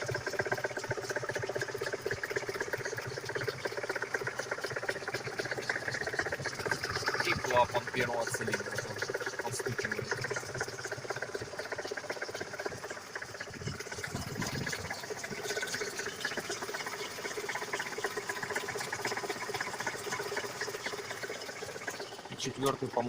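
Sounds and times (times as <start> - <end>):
dull engine knock: 0.0 - 23.0
engine idling with ticking clatter: 0.0 - 23.0.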